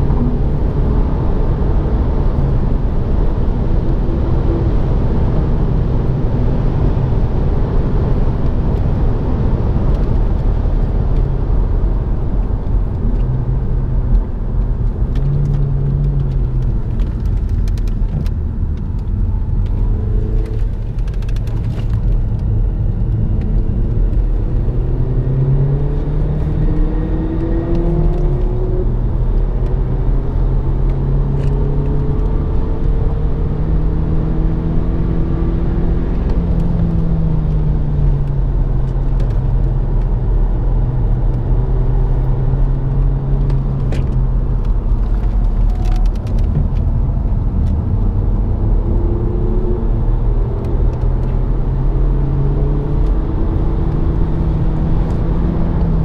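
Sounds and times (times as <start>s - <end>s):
car engine accelerating: 0.0s - 56.0s
road and tyre rumble: 0.0s - 56.0s.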